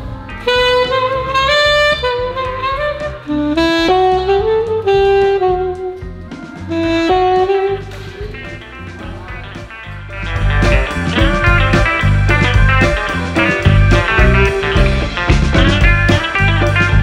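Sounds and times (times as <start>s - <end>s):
alto saxophone slow melody: 0.3s - 17.0s.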